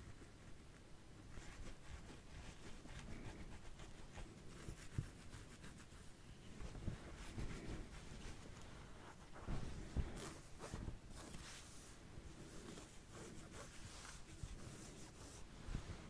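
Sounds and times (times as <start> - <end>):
back scratching and rubbing: 1.3 - 16.0.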